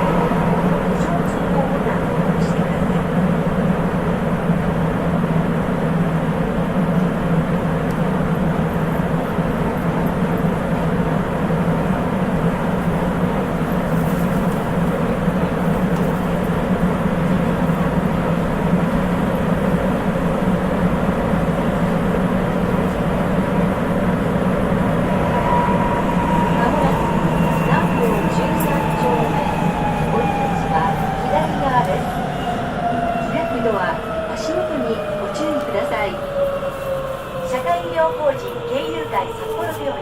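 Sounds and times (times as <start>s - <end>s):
train rumbling through tunnel: 0.0s - 40.0s.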